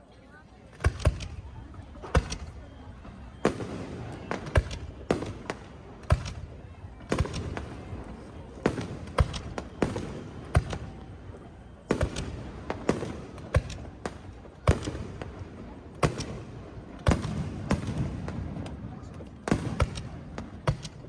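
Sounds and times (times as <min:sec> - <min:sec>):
fireworks bangs echoing: 0:00.7 - 0:21.0.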